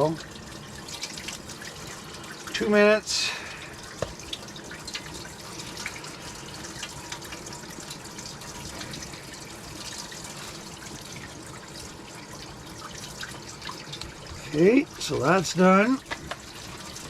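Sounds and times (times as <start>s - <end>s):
water drips and splashes: 0.0s - 17.0s
water tap running: 0.0s - 17.0s.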